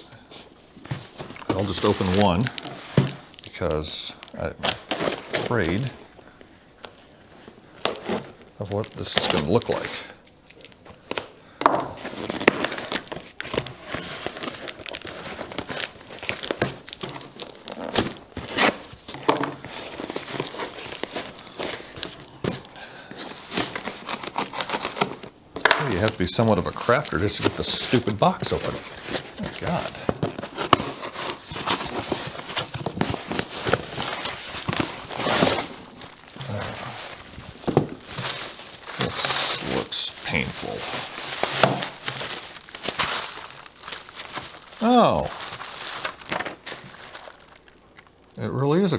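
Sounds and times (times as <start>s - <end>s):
cardboard rustling and crinkling: 0.7s - 6.0s, 6.8s - 10.0s, 10.9s - 48.1s.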